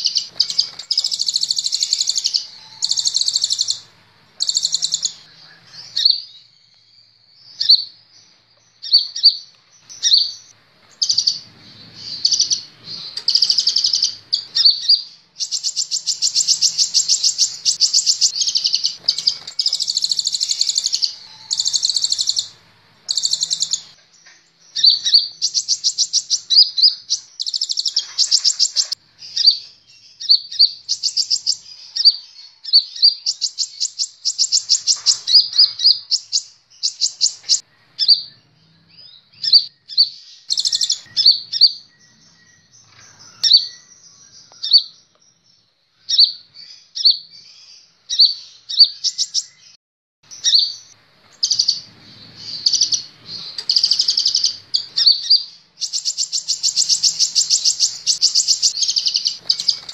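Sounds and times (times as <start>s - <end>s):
bird singing high trills: 0.0s - 59.9s.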